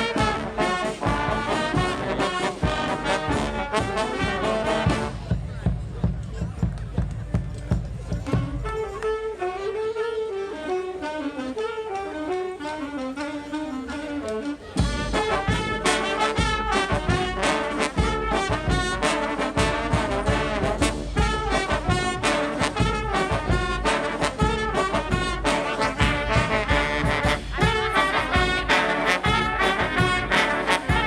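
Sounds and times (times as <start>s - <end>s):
brass band playing up-tempo tune: 0.0s - 31.0s.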